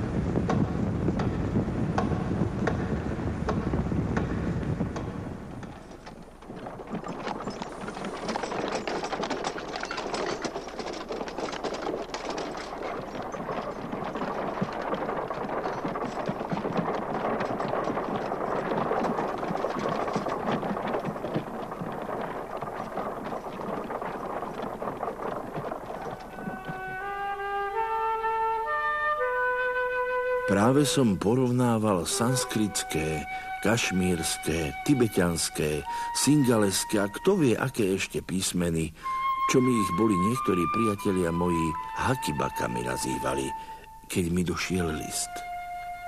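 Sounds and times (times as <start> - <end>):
horse hooves: 0.0 - 46.0
wooden wagon wheels clattering: 0.0 - 46.0.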